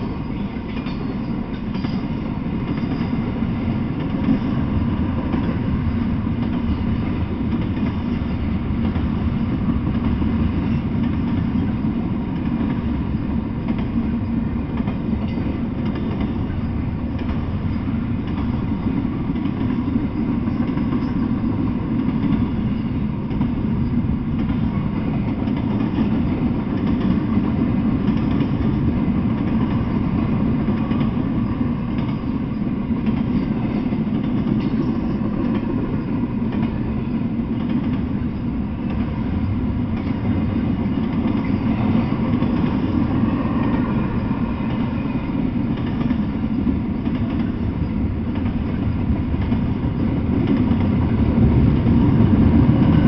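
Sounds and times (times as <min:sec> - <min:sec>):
freight train rolling past: 0:00.0 - 0:53.0
steel wheels rumbling on rail: 0:00.0 - 0:53.0.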